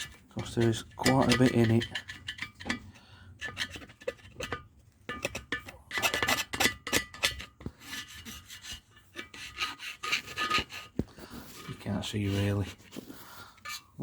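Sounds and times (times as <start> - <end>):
chisel scraping metal: 0.0 - 14.0.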